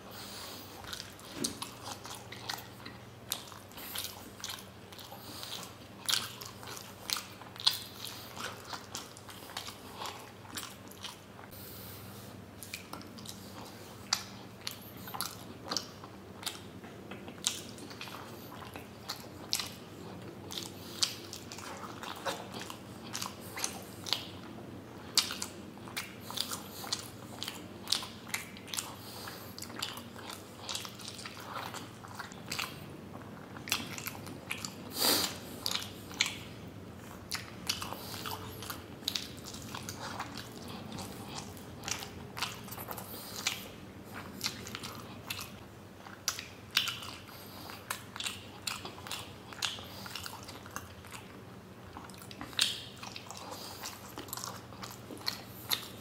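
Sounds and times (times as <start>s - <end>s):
wet chewing smacks: 0.1s - 11.6s, 12.6s - 56.0s.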